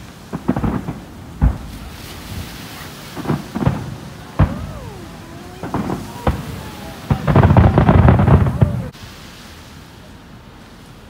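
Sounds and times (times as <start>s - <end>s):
firework shells bursting: 0.0s - 9.0s.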